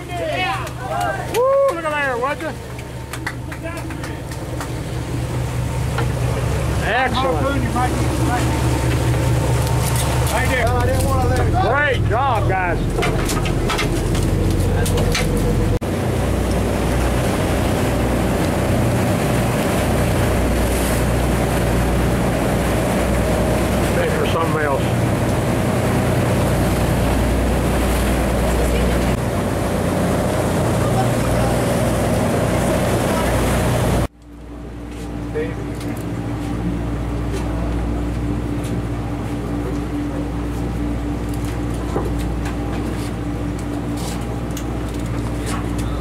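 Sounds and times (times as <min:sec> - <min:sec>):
boat engine humming: 0:00.0 - 0:46.0
sea noise: 0:00.0 - 0:46.0
wind: 0:00.0 - 0:46.0.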